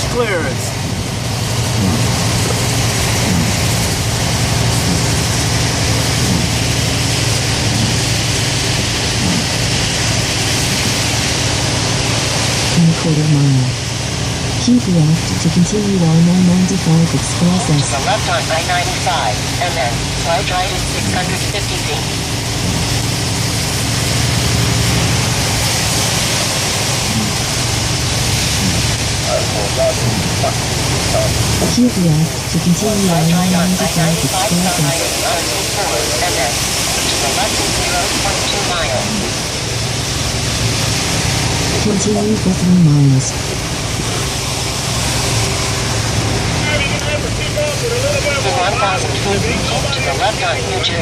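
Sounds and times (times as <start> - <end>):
car engine hum: 0.0 - 51.0
tyres hissing on wet road: 0.0 - 51.0.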